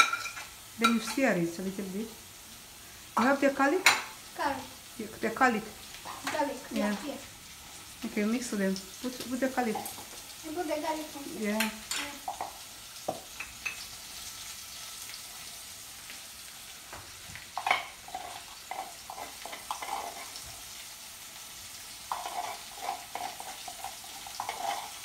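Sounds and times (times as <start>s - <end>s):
tomatoes sizzling in a pot: 0.0s - 25.0s.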